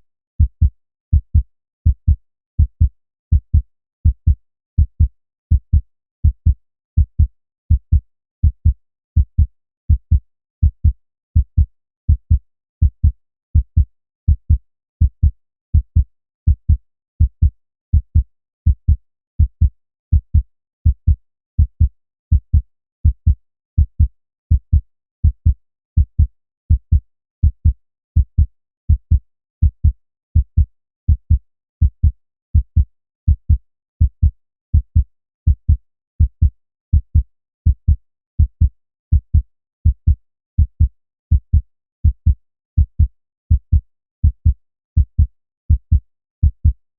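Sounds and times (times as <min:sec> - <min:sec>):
human heartbeat: 0:00.4 - 0:46.8.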